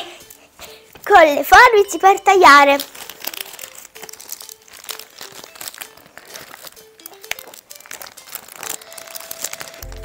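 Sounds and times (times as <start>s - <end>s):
foil wrapping crinkling: 0.3s - 10.0s.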